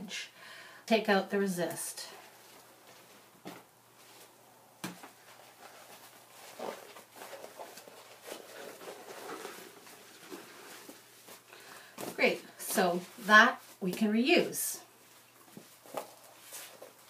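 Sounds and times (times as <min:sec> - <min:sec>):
faint rustling: 0:02.0 - 0:14.1, 0:14.8 - 0:17.0.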